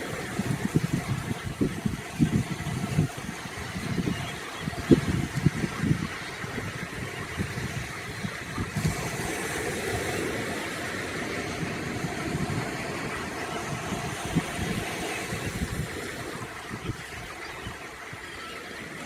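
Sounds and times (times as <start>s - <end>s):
surf: 0.0s - 19.0s
wind buffeting microphone: 0.0s - 19.0s.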